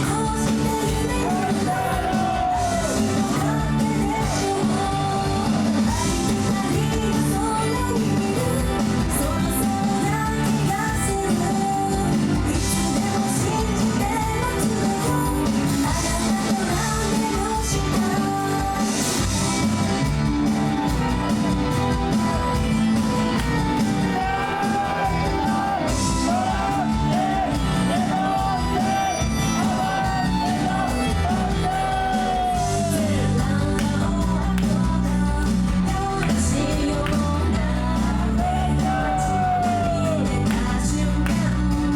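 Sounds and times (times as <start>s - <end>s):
woman singing: 0.0s - 19.8s, 22.1s - 41.9s
pop backing track guitar and drums: 0.0s - 41.9s.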